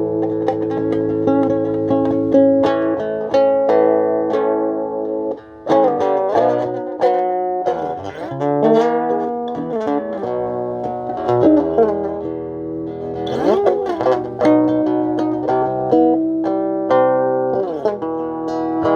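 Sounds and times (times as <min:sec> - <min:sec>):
guitar plucked melody: 0:00.0 - 0:18.9.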